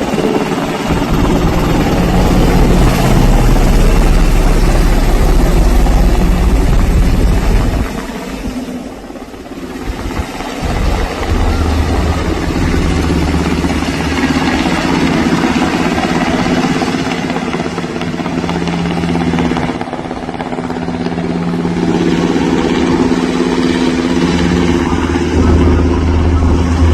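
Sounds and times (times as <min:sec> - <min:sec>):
helicopter engine and rotor drone: 0:00.0 - 0:26.9.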